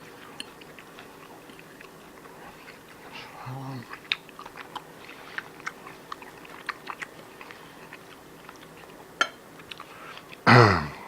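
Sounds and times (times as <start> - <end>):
person chewing food: 0.0 - 10.5.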